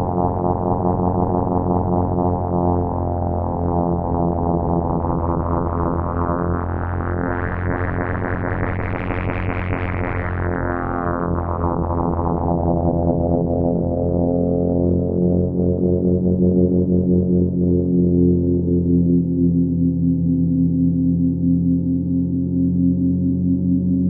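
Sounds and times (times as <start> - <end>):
synthesizer low note with filter sweep: 0.0 - 24.0.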